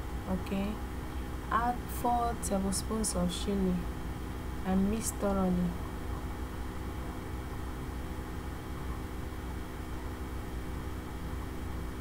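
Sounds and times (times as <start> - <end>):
mechanical hum with fixed tones: 0.0 - 12.0.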